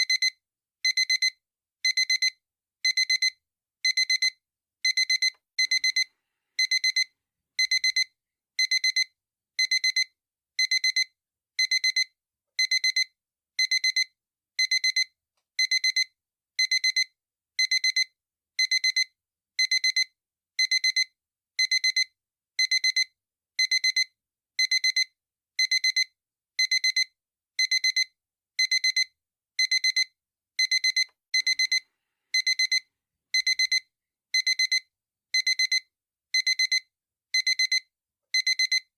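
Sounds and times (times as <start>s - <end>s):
alarm clock beeping: 0.9s - 31.8s, 32.4s - 33.8s, 34.4s - 34.8s, 35.4s - 35.8s, 36.4s - 36.8s, 37.4s - 37.8s, 38.4s - 38.8s.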